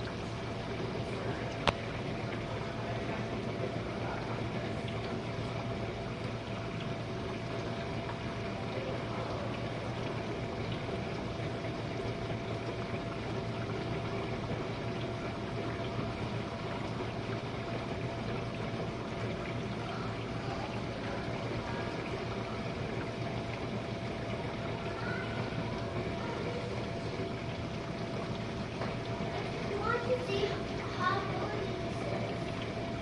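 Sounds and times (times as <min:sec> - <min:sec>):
dishwasher pump motor hum: 0:00.0 - 0:33.0
water spraying and sloshing: 0:00.0 - 0:33.0.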